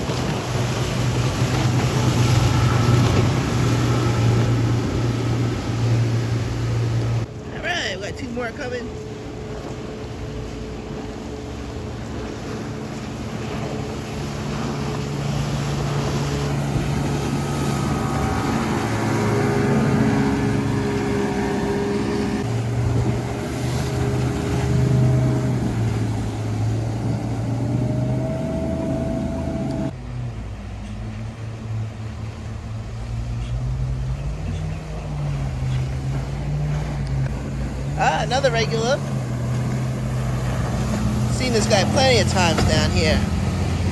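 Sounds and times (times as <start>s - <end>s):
motorboat engines running: 0.0s - 43.9s.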